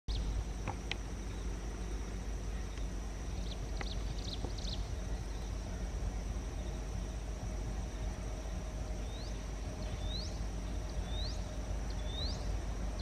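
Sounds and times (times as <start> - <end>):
birds chirping: 0.1 - 13.0
high insect drone: 0.1 - 13.0
low rumble: 0.1 - 13.0.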